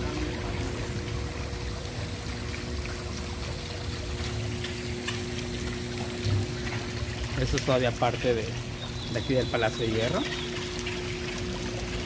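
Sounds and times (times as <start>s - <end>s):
faint steady hums: 0.0s - 12.0s.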